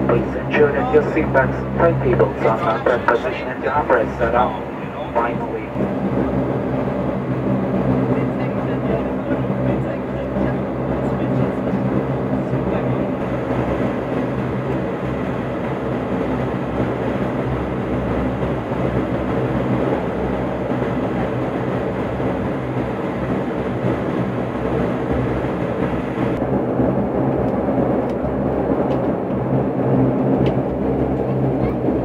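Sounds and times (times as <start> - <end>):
turboprop cabin drone: 0.0 - 32.0.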